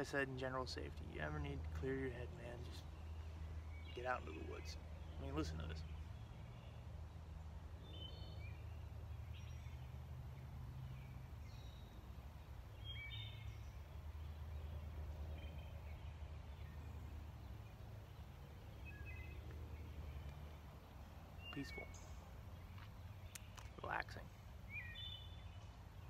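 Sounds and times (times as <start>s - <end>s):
bird chirps and calls: 0.0s - 26.0s.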